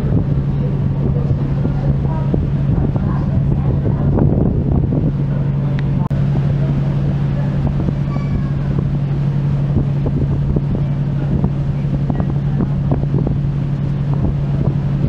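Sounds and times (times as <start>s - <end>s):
ferry engines droning: 0.0s - 15.0s
wind buffeting microphone: 0.0s - 15.0s.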